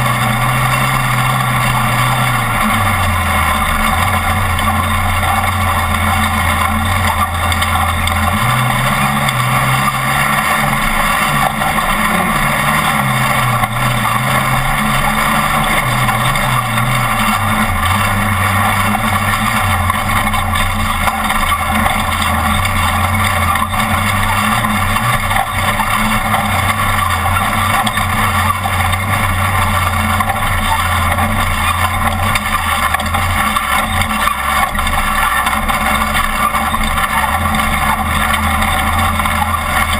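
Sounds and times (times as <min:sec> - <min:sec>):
rough road noise: 0:00.0 - 0:39.9
truck engine running hard: 0:00.0 - 0:39.9.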